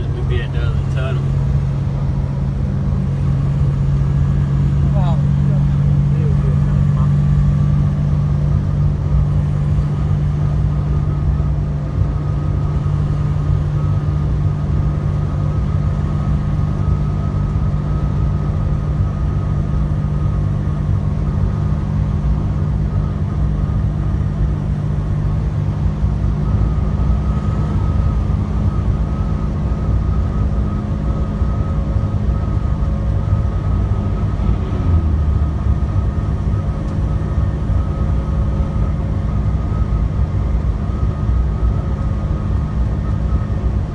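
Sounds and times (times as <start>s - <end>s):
truck diesel engine drone: 0.0s - 43.9s.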